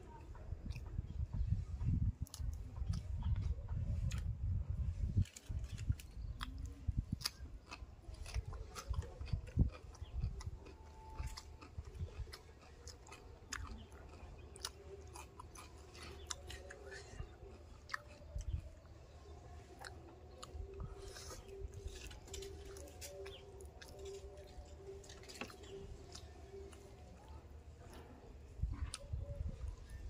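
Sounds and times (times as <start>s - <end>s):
man chewing food: 0.2s - 4.4s, 5.2s - 30.0s.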